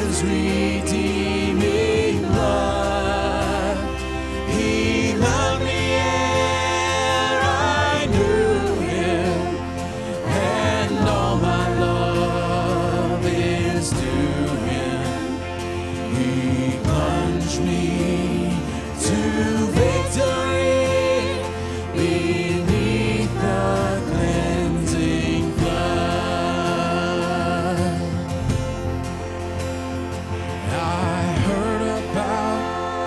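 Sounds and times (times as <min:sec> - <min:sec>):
band playing: 0:00.0 - 0:33.0
people singing: 0:00.0 - 0:33.0.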